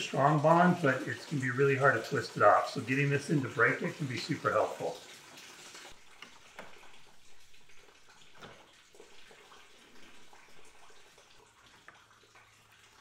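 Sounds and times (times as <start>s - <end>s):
coolant trickling into a pan: 0.0s - 13.0s.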